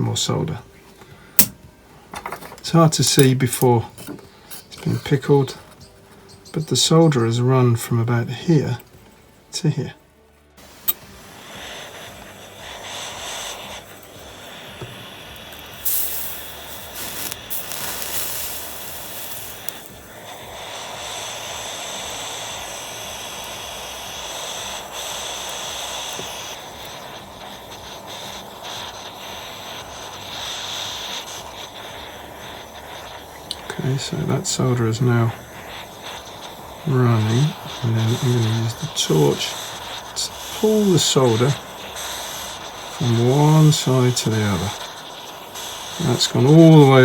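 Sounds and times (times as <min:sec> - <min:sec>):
torch flame hissing: 0:00.0 - 0:47.0.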